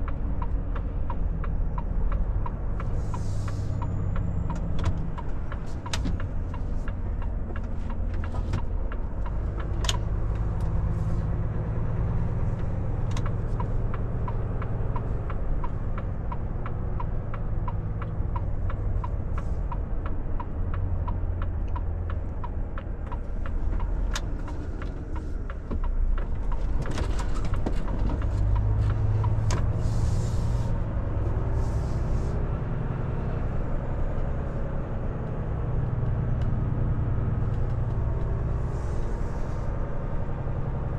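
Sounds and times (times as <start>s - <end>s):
turn indicator ticking: 0.0s - 30.2s, 32.8s - 40.9s
truck diesel engine running: 0.0s - 40.9s.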